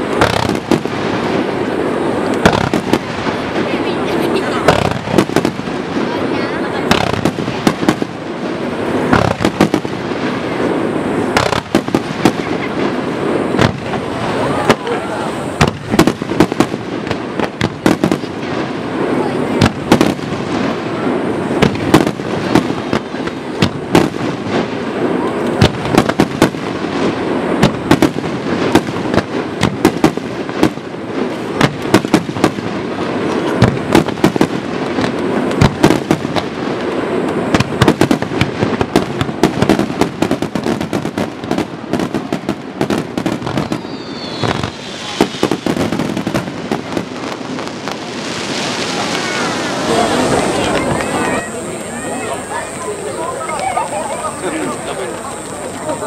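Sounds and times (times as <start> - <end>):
fireworks bangs: 0.0 - 56.0
fireworks crackle: 0.0 - 56.0.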